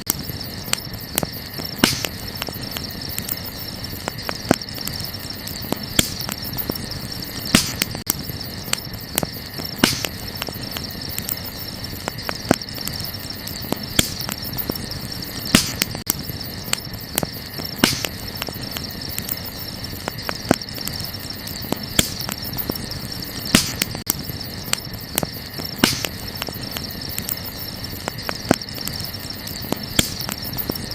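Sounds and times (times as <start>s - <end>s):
campfire crackling and popping: 0.0s - 30.9s
crickets chirring: 0.0s - 30.9s.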